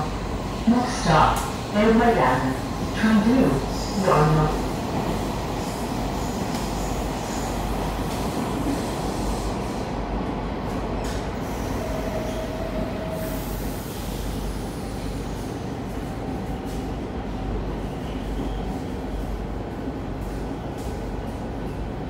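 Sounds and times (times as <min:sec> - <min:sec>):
train rumbling in tunnel: 0:00.0 - 0:22.0.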